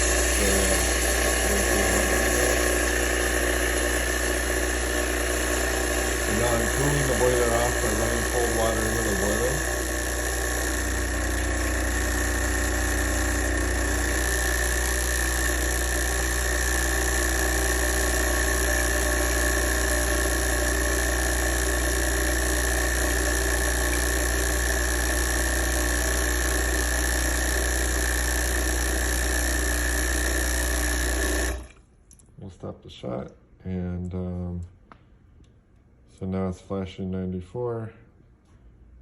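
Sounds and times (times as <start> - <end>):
espresso machine pump humming: 0.0 - 31.8.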